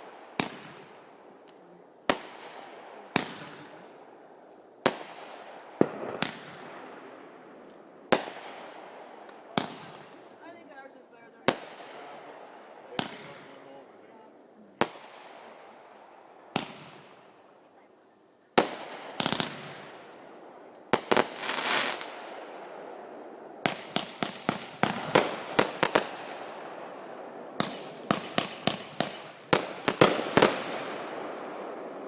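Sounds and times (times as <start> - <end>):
fireworks bangs: 0.0 - 17.9, 18.5 - 32.0.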